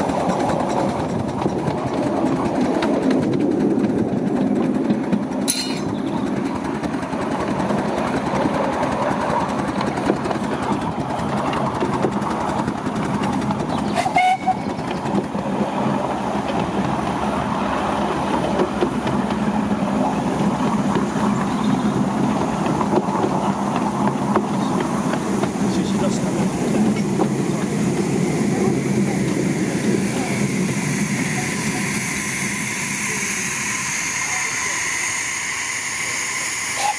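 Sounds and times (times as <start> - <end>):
miniature train rumbling on track: 0.0 - 36.9.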